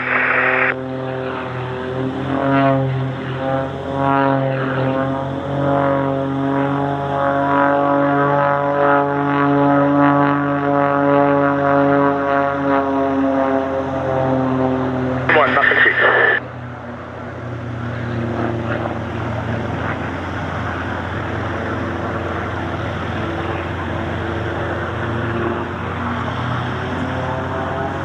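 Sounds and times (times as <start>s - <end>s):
propeller aircraft engine droning: 0.0s - 28.0s.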